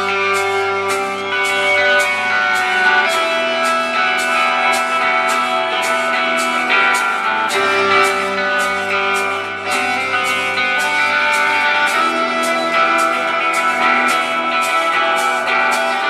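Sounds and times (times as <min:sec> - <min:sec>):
cymbal ticking: 0:00.0 - 0:16.0
electric guitar chords: 0:00.0 - 0:16.0.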